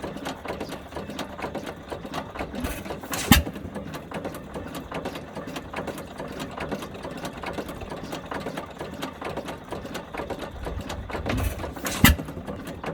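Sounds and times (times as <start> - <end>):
stationary engine clattering: 0.0 - 12.9.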